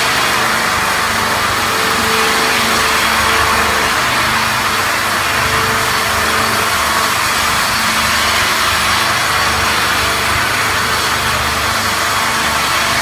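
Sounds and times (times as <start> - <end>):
machine running with steady noise: 0.0 - 13.0.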